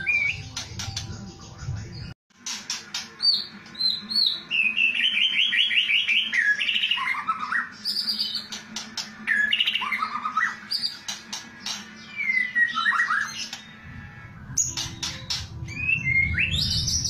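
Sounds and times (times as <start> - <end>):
songbird singing rattling phrases: 0.0 - 17.0.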